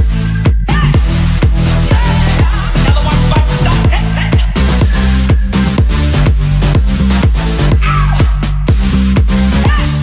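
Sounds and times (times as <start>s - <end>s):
dance music with beat and bass: 0.0s - 10.0s.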